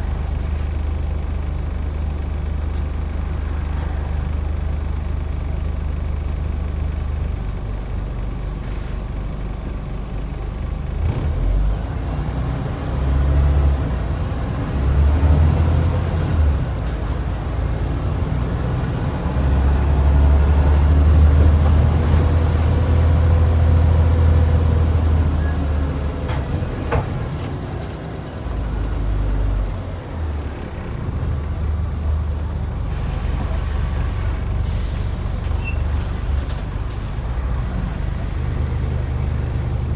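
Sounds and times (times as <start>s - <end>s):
bus diesel engine rumbling: 0.0s - 39.9s.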